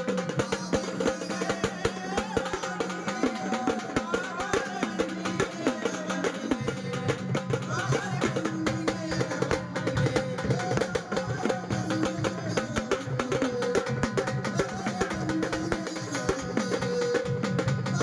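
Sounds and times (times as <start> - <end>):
fast drum and percussion: 0.0 - 18.0.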